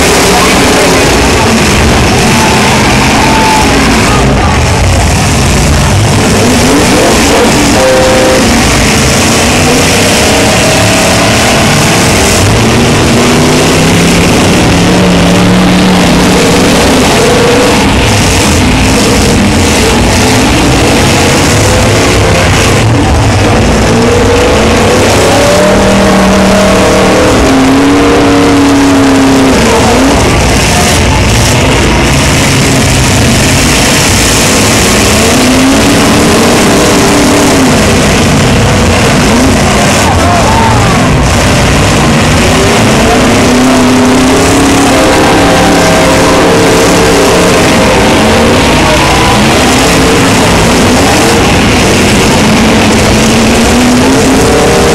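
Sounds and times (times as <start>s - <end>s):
car engines revving: 0.0s - 54.9s
loud wash of noise: 0.0s - 54.9s.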